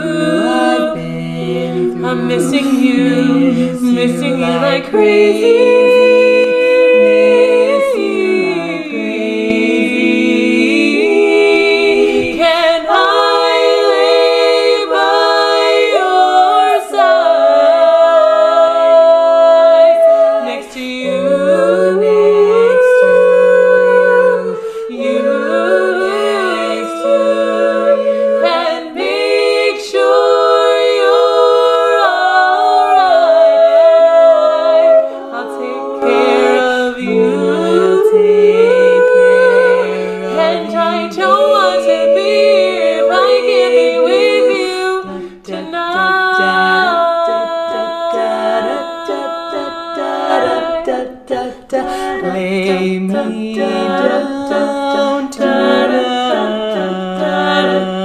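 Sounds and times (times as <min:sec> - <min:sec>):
women singing a cappella harmony: 0:00.0 - 0:58.0.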